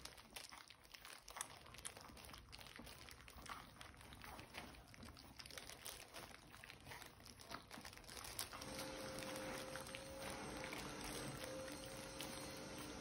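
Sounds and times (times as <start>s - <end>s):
puppies lapping and smacking food: 0.0s - 13.0s.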